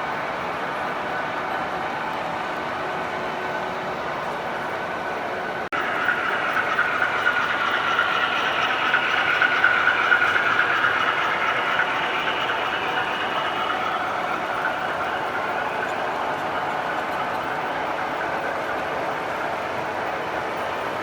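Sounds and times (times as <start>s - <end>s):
model train running on track: 0.0s - 21.0s.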